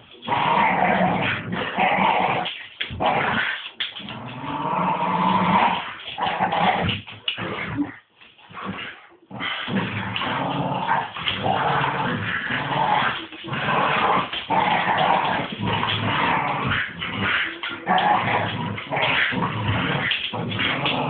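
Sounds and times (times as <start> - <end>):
dogs growling: 0.2 - 21.0.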